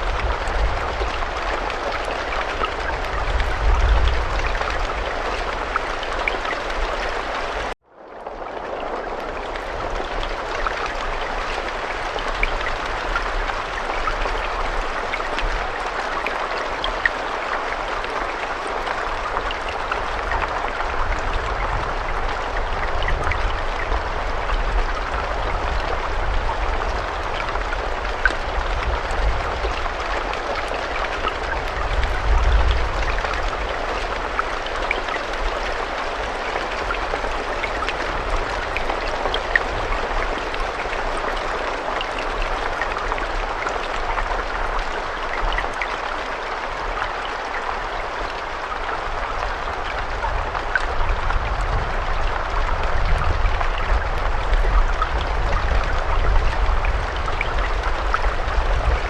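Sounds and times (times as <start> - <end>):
raindrop ticks: 0.0 - 59.0
steady rain falling: 0.0 - 59.0.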